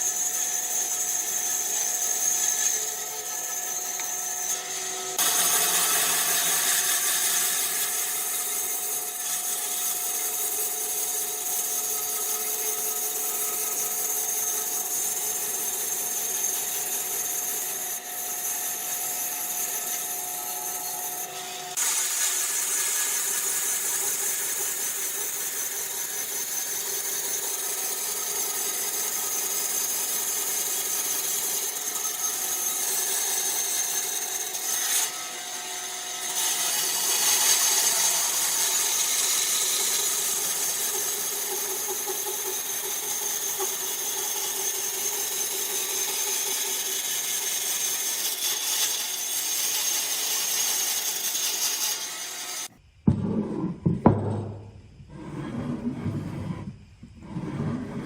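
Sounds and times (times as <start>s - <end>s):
woodworking machinery whining: 0.0s - 47.6s.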